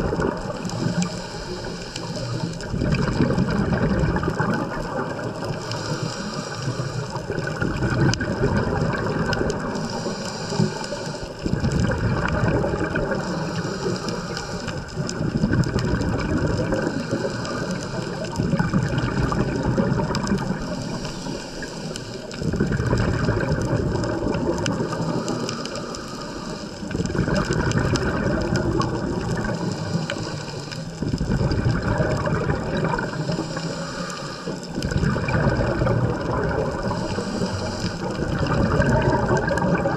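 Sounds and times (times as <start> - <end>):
air bubbles gurgling underwater: 0.0 - 39.9.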